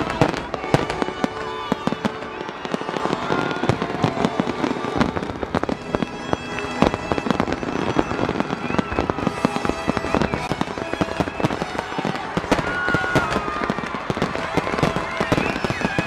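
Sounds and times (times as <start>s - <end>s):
fireworks bursting with crackle: 0.0s - 16.0s.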